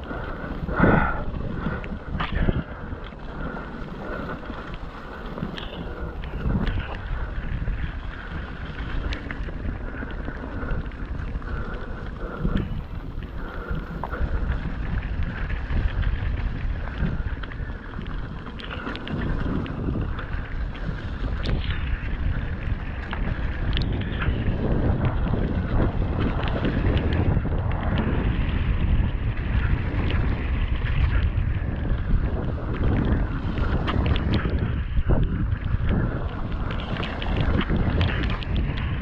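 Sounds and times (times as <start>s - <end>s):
bike tyres clicking and knocking: 0.0s - 39.0s
wind on microphone: 0.0s - 39.0s.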